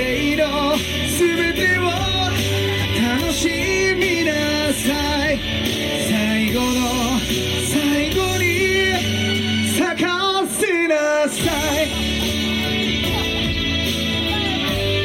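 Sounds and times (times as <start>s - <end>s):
pop-rock band with guitar and drums: 0.0s - 15.0s.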